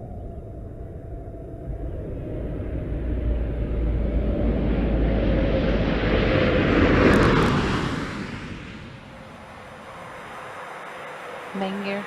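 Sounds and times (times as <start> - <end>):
aircraft rushing noise: 0.0 - 12.0.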